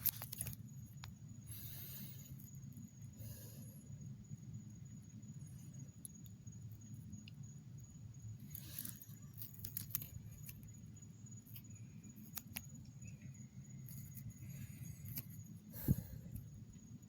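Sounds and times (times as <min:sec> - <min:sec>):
small ticks: 0:00.0 - 0:03.4, 0:05.4 - 0:17.0
high insect trill: 0:00.0 - 0:17.0.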